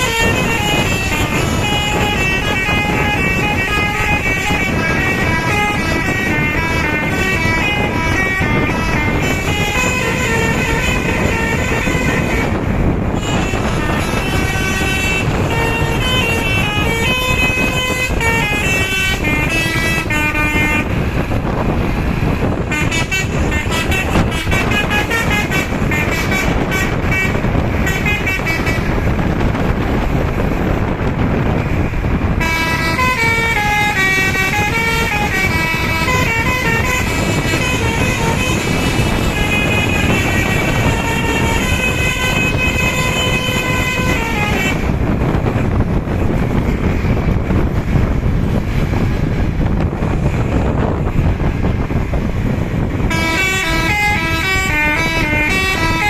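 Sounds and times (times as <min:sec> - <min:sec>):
low engine and street rumble: 0:00.0 - 0:56.0
multi-tone bus horn playing tune: 0:00.0 - 0:56.0.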